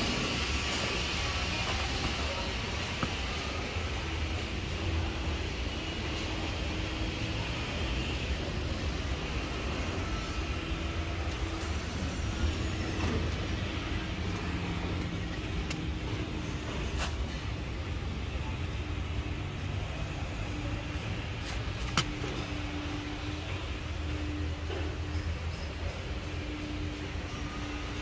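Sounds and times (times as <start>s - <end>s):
ventilation plant rumbling: 0.0s - 28.0s.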